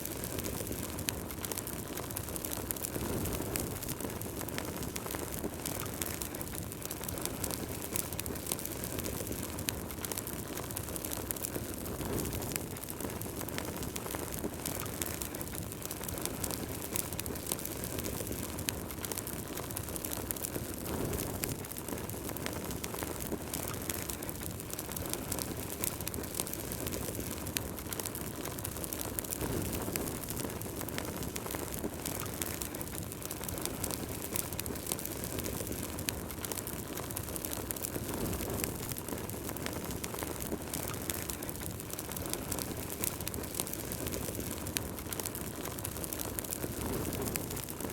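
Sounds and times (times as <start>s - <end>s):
crackles and pops of burning logs: 0.0s - 47.9s
wood fire burning: 0.0s - 47.9s.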